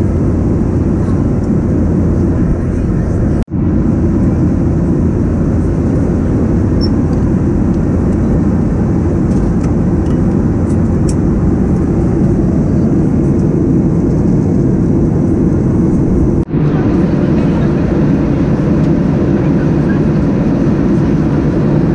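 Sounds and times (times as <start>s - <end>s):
airplane cabin engine roar: 0.0s - 21.9s.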